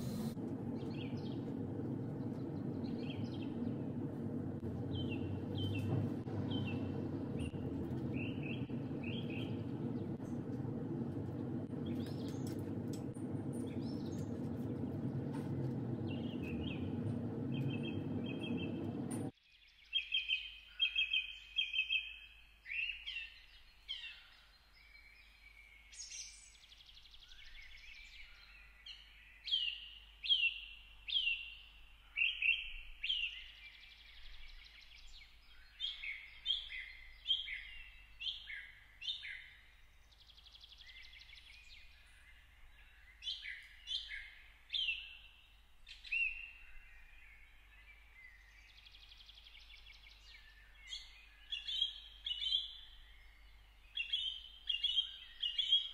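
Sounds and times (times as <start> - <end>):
songbirds singing and chirping: 0.0 - 55.9.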